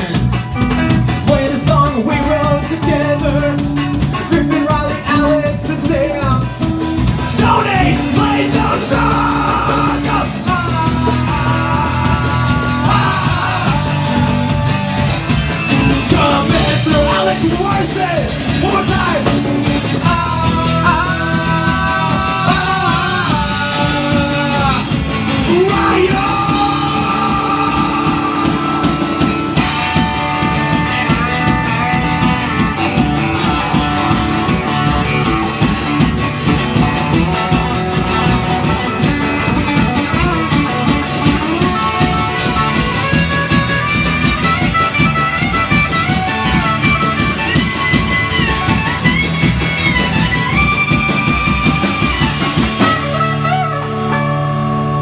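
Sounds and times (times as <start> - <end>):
drum kit: 0.0 - 55.0
electric bass: 0.0 - 55.0
electric guitars: 0.0 - 55.0.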